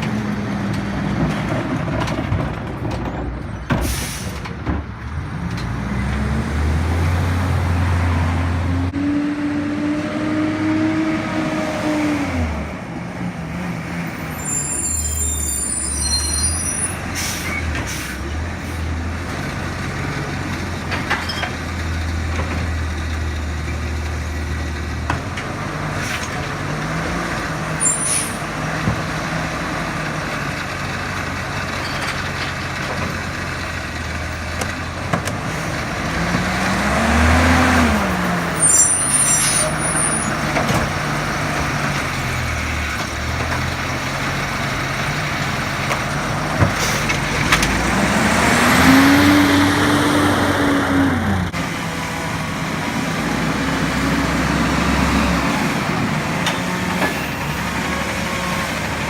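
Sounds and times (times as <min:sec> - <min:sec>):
garbage truck diesel engine: 0:00.0 - 0:59.0.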